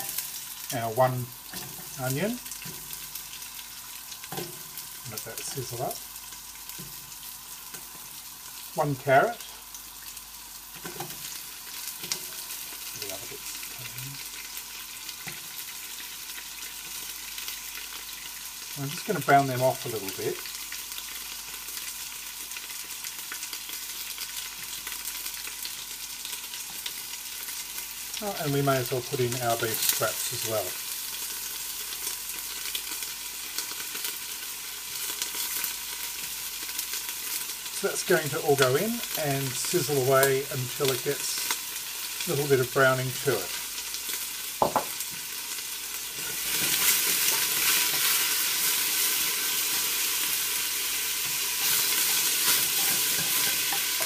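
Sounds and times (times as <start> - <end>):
vegetables sizzling in hot oil: 0.0 - 54.0.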